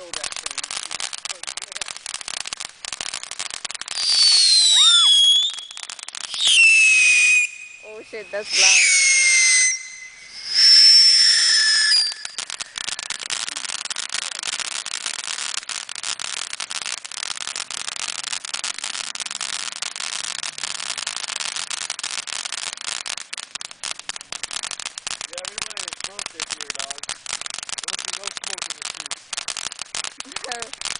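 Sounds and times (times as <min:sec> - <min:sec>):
firework crackling pops: 0:00.0 - 0:30.9
firework whistles: 0:00.0 - 0:30.9.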